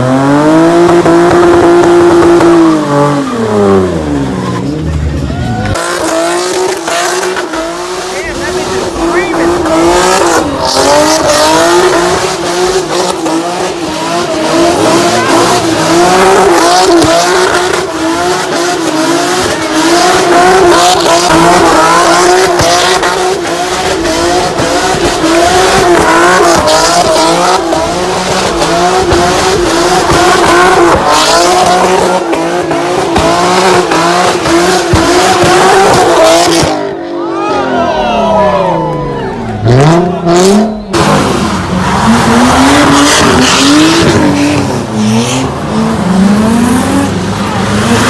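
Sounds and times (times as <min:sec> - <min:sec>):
car engine at high revs: 0:00.0 - 0:37.2, 0:38.0 - 0:48.0.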